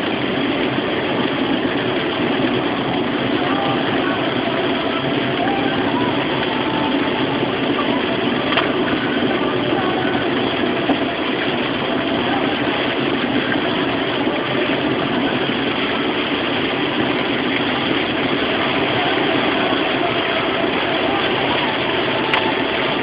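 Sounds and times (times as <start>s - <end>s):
car engine running: 0.0s - 23.0s
rain on a car: 0.0s - 23.0s
tyres on wet road: 0.0s - 23.0s.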